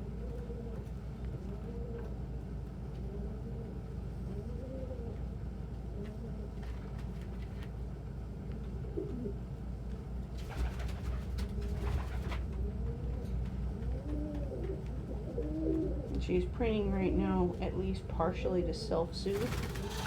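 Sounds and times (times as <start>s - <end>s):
pigeons cooing: 0.0s - 6.8s, 8.7s - 17.8s, 19.3s - 20.0s
steady low hum: 0.0s - 20.0s.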